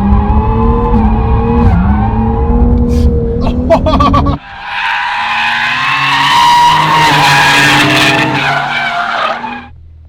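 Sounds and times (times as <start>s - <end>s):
car engine drone: 0.0s - 10.0s.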